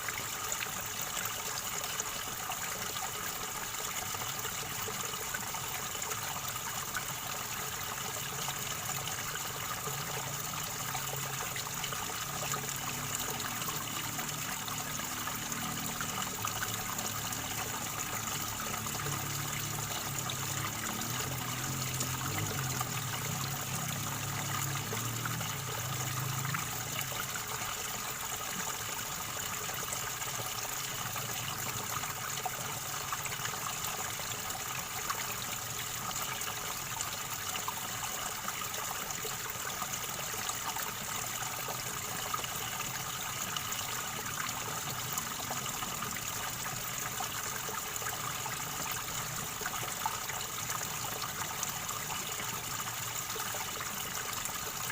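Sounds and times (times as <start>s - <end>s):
river water gurgling: 0.0s - 54.9s.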